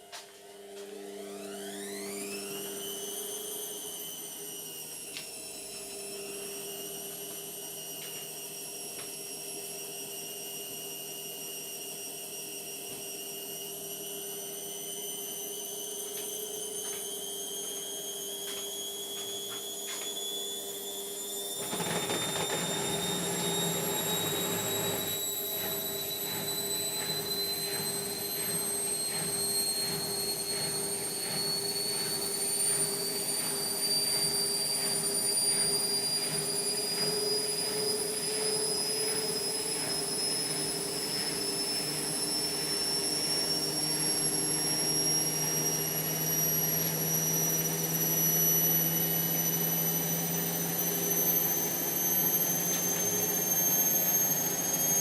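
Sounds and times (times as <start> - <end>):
washing machine motor whine: 0.0 - 55.0.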